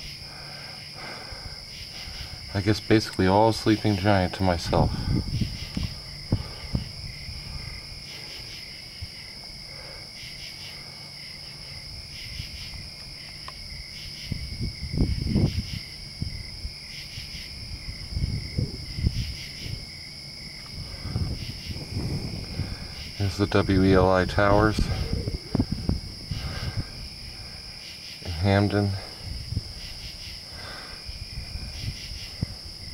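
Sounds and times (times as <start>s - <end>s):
crickets and insects trilling: 0.0s - 32.9s
pulsing insect calls: 0.0s - 32.9s
low rumble on microphone: 1.0s - 10.0s, 13.6s - 32.9s.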